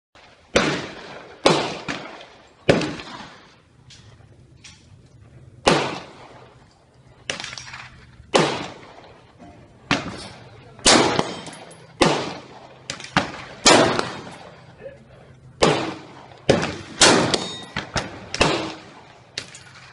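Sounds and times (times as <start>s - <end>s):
rifle shots echoing: 0.2s - 19.9s.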